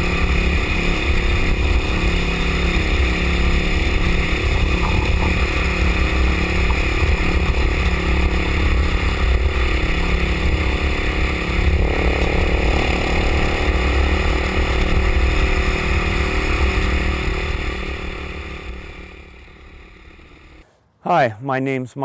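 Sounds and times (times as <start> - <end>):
motorcycle engine cruising: 0.0 - 20.6.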